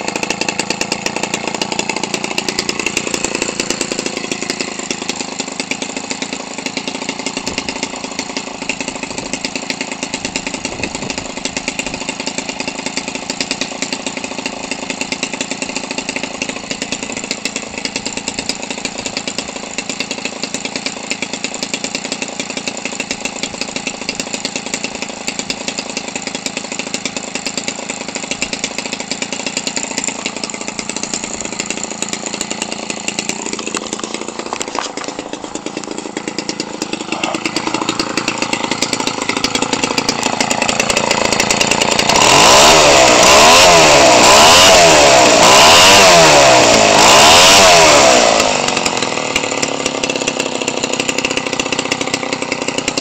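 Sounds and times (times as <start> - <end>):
model airplane engine revving: 0.0 - 53.0.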